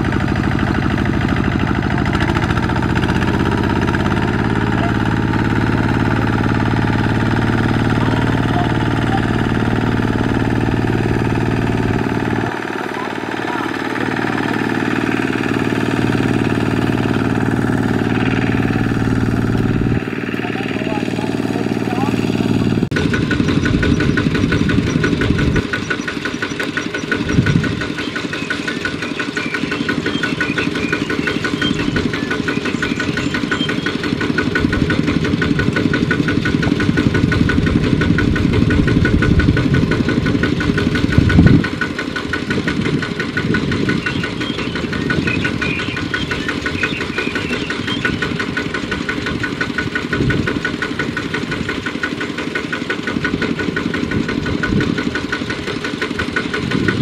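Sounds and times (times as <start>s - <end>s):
single-cylinder diesel engine running: 0.0s - 57.0s.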